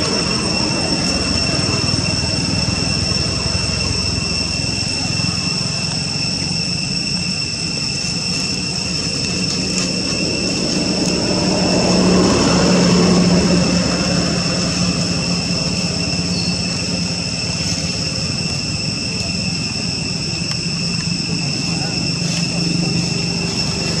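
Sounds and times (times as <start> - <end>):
high-pitched whine: 0.0 - 24.0
passing traffic engine drone: 0.0 - 24.0.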